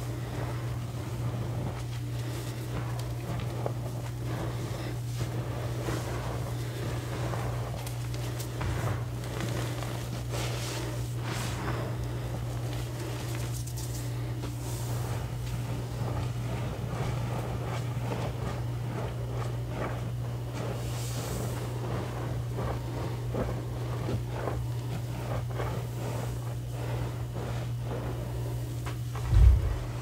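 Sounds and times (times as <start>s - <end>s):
hands patting powdered chalk: 0.0s - 30.0s
steady low hum: 0.0s - 30.0s.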